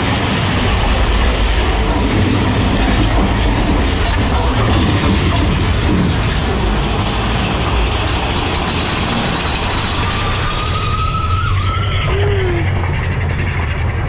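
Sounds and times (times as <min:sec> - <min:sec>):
roller coaster rumble and rattle: 0:00.0 - 0:14.0.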